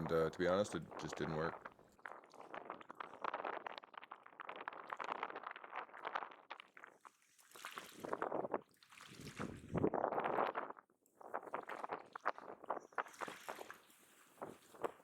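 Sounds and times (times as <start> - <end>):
small waves lapping and splashing: 0.0 - 15.0.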